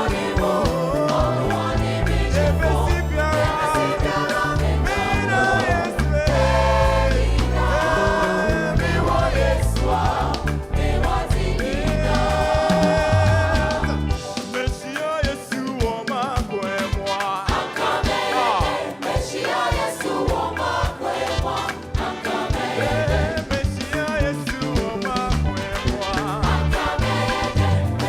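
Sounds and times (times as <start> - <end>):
band with bass and drums: 0.0 - 28.0
gospel choir singing: 0.0 - 28.0.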